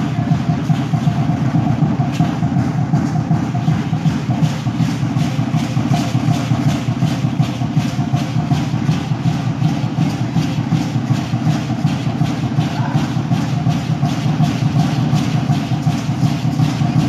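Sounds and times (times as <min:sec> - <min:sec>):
continuous low rumble: 0:00.0 - 0:17.0
drum and rattles beating: 0:00.0 - 0:17.0.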